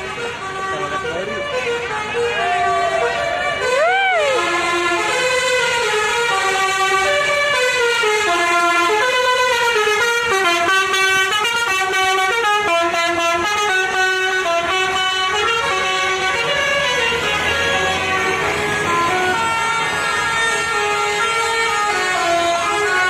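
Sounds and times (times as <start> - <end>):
bus horn playing a tune: 0.0 - 23.0.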